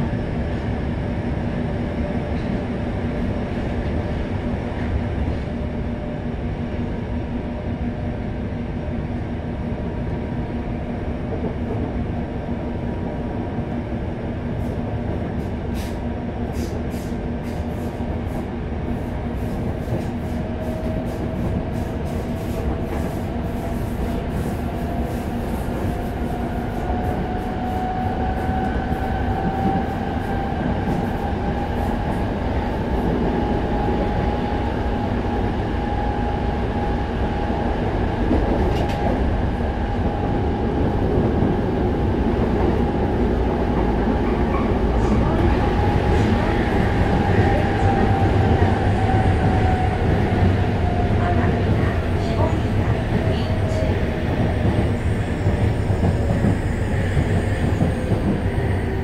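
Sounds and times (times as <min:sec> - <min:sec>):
train wheels and motors rumbling: 0:00.0 - 0:59.0.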